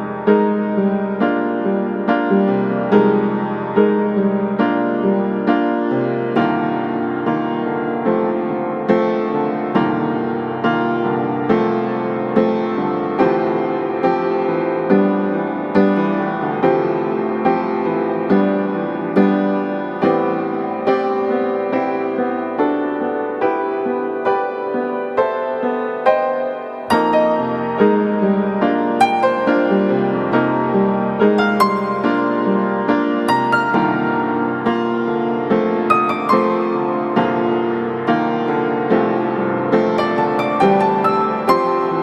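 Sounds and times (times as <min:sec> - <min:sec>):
piano piece: 0:00.0 - 0:42.0.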